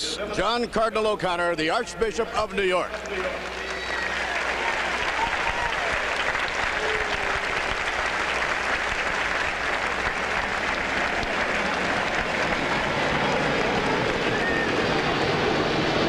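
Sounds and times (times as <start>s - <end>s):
crowd applauding: 2.9s - 16.0s.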